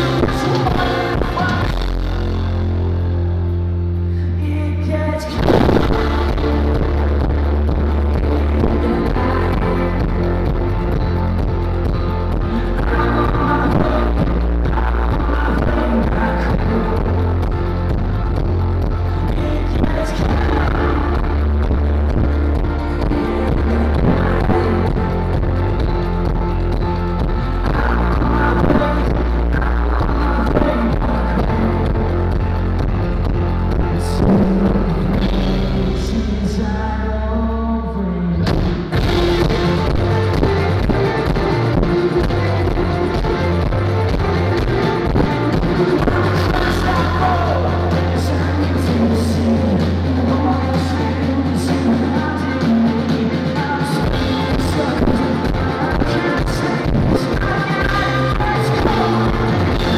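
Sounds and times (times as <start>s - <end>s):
person singing: 0.0s - 3.0s, 4.0s - 59.9s
bass guitar: 0.0s - 59.9s
drums: 0.0s - 59.9s
electric guitars: 0.0s - 59.9s.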